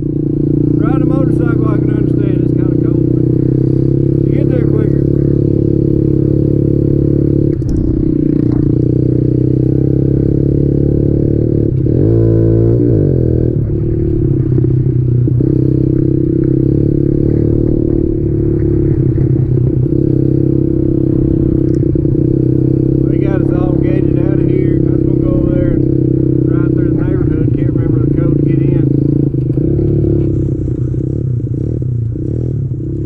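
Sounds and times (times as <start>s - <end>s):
motorbike engine running: 0.0s - 33.0s.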